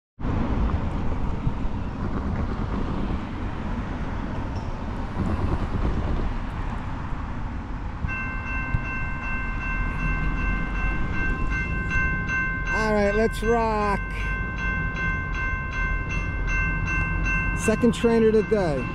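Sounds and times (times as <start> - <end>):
low rumble: 0.2 - 17.5.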